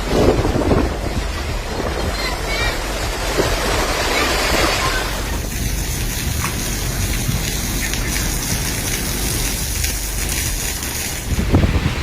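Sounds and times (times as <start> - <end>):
heavy rain hiss: 0.0 - 12.0
wind gusts buffeting microphone: 0.0 - 12.0.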